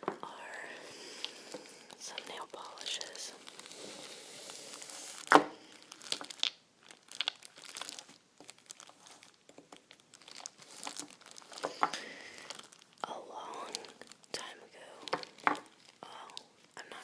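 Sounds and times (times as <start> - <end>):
plastic crinkling and crumpling: 0.0 - 17.0.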